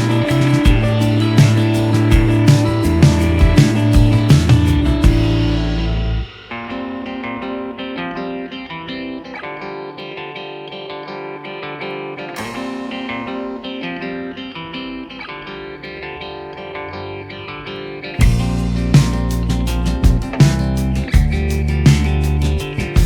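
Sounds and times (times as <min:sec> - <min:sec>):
plucked guitar melody: 0:00.0 - 0:23.0.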